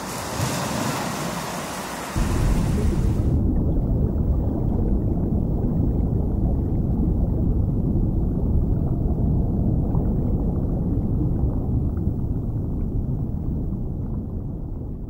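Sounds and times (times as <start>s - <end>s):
muffled seawater rumble: 0.0s - 15.0s.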